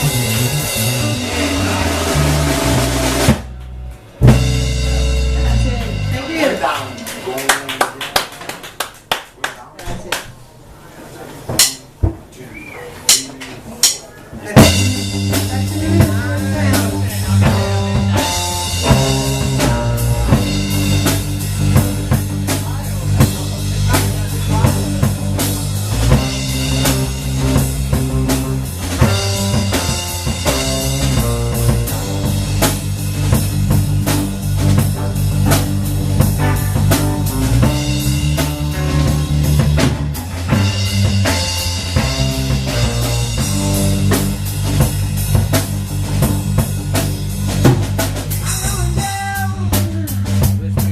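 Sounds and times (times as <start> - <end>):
live blues band playing: 0.0 - 7.4, 13.0 - 50.9
drum kit beat: 0.0 - 10.4, 11.5 - 12.3, 13.0 - 50.9.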